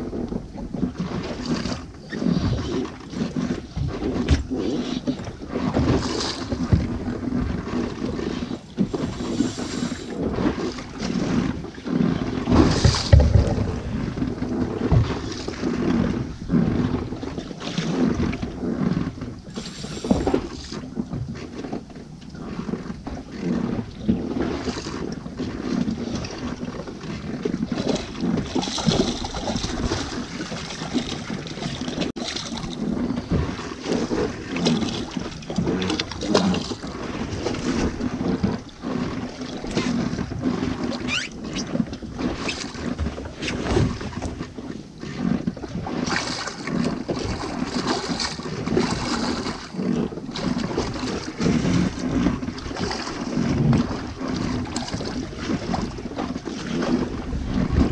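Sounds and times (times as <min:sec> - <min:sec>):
water noise: 0:00.0 - 0:57.9
wind buffeting microphone: 0:00.0 - 0:57.9.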